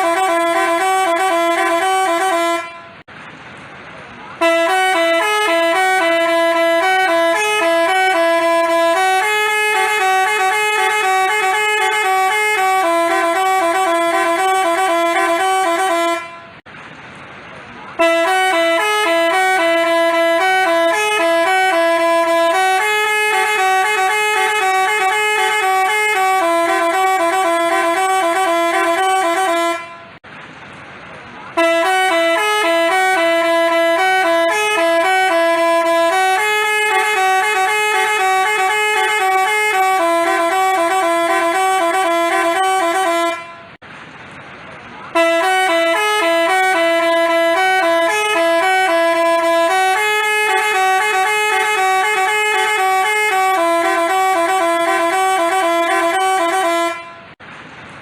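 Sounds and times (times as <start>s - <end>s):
multi-tone bus horn tune: 0.0s - 3.1s, 4.2s - 16.7s, 17.9s - 30.3s, 31.5s - 43.8s, 45.0s - 57.5s.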